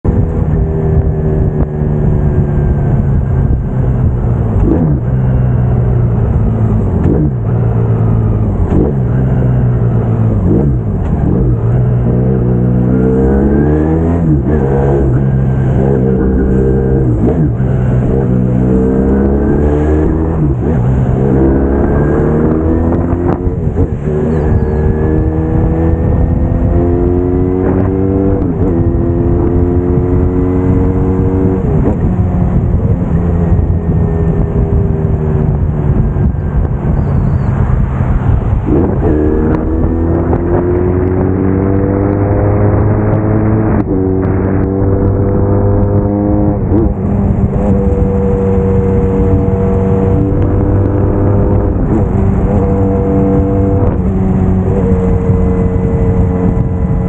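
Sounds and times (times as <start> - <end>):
motorbike engine accelerating: 0.1 - 57.0.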